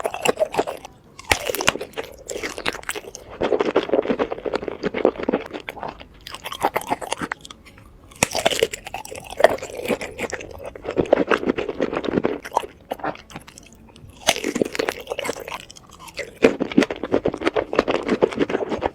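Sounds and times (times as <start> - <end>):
person chewing crunchy food: 0.0 - 18.9.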